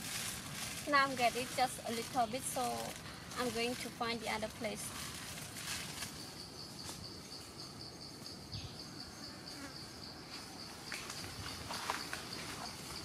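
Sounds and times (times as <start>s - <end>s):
insect trilling: 0.9s - 13.0s.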